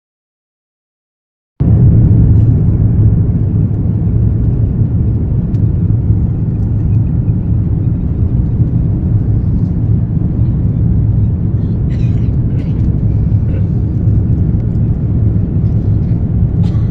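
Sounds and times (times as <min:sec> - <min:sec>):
loud low vehicle rumble: 0:01.6 - 0:16.9.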